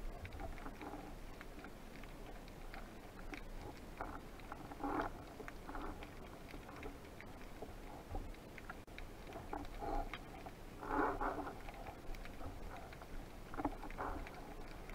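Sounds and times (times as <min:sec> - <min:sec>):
underwater clicks: 0:00.0 - 0:14.9.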